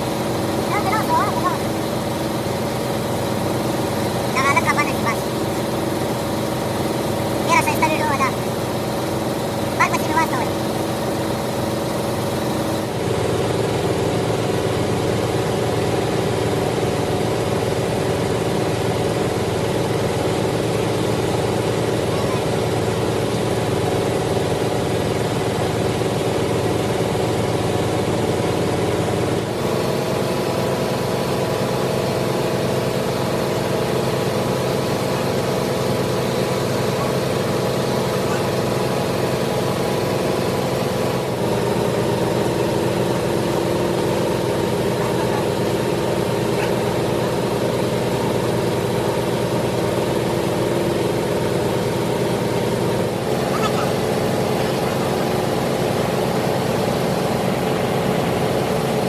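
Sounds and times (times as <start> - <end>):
lathe machine humming: 0.0 - 59.0.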